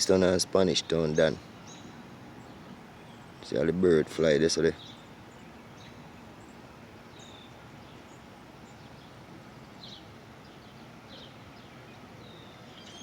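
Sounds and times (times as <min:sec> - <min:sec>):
birds chirping faintly: 0:00.0 - 0:13.0
outdoor background hiss: 0:00.0 - 0:13.0.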